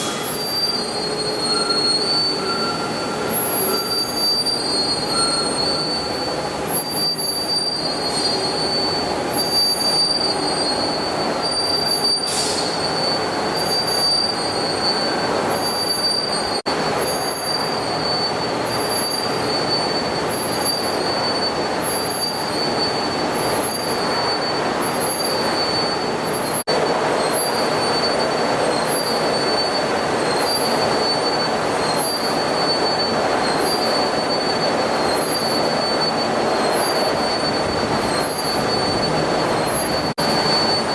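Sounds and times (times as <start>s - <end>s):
high-pitched squeal: 0.0s - 40.9s
metallic machine noise: 0.0s - 40.9s.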